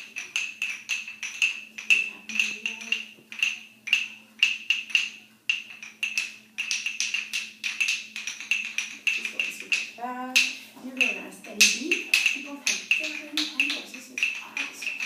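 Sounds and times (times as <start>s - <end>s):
wooden rhythm sticks clacking: 0.0s - 15.0s.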